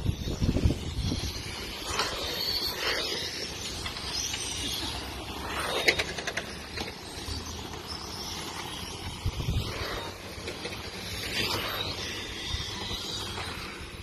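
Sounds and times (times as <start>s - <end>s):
rc truck motors whining: 0.0s - 14.0s.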